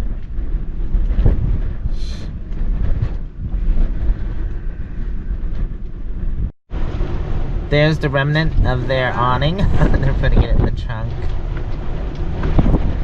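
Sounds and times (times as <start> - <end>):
strong wind buffeting: 0.0 - 13.0.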